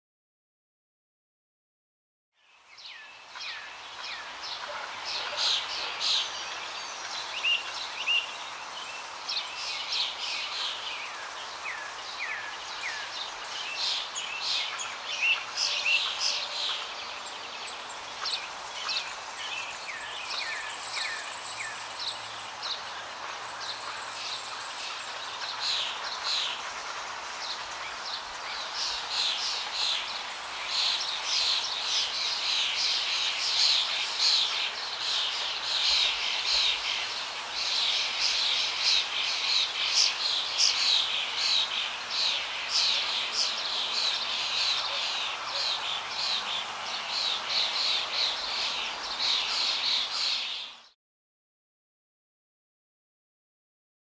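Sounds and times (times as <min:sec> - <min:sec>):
small birds chirping: 0:02.4 - 0:51.0
steady outdoor hiss: 0:02.4 - 0:51.0.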